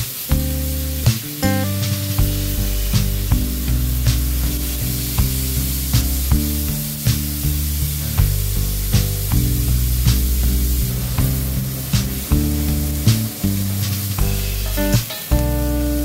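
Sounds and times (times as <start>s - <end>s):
background music with a beat: 0.0s - 16.0s
meat and onion sizzling in pan: 0.0s - 16.0s.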